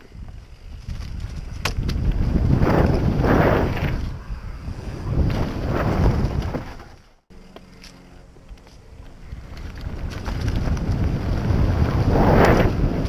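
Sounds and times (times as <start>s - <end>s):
wind buffeting microphone: 0.0s - 7.0s, 8.8s - 13.0s
bike tyres rumbling over dirt: 0.0s - 7.2s, 8.9s - 13.0s.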